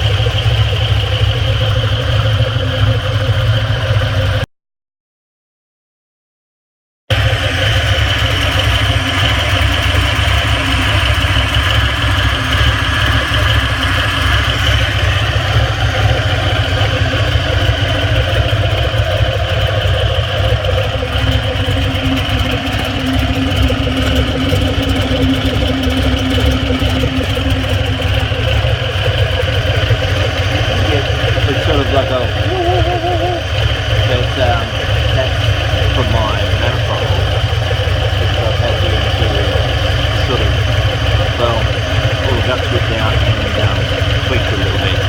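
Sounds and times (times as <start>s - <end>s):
car engine idling with light knocking: 0.0s - 4.5s, 7.1s - 45.0s.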